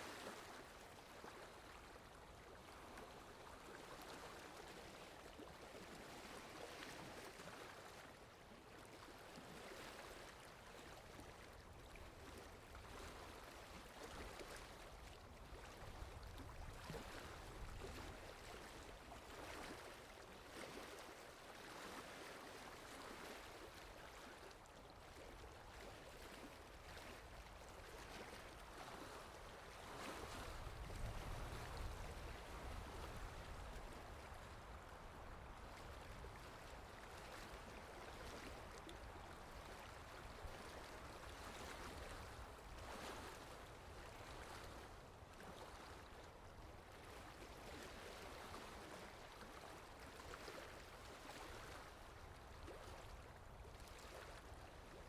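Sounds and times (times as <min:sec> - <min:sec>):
water lapping gently: 0:00.0 - 0:55.0
wind: 0:00.0 - 0:55.0.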